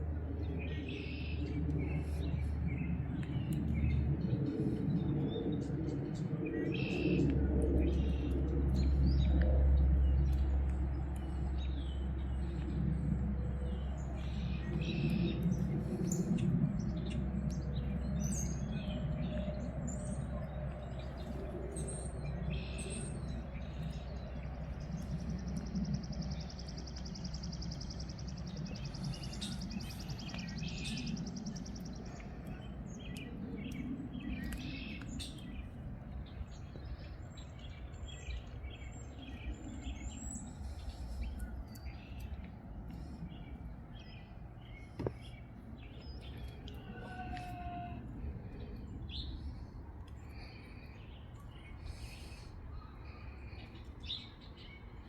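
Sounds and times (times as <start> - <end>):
songbirds chirping: 0.0 - 55.0
wind rumble on microphone: 0.0 - 55.0.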